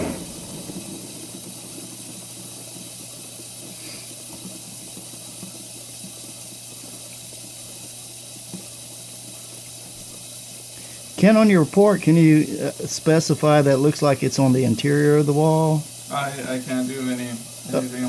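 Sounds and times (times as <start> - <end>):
dishwasher filling with water: 0.0 - 18.0.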